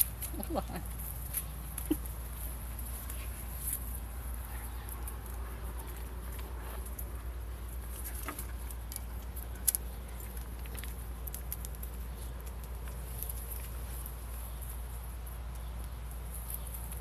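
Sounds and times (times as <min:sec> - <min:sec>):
claws clicking: 0:00.0 - 0:14.6
steady low hum: 0:00.0 - 0:17.0.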